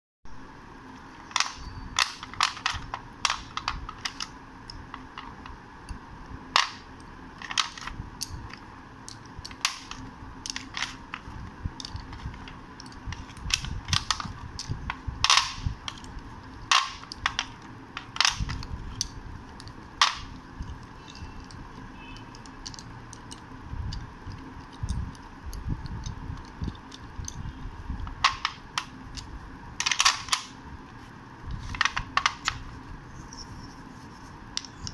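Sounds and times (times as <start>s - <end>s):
slate pieces clicking on tabletop: 1.3s - 30.6s, 31.6s - 32.7s, 34.5s - 34.9s.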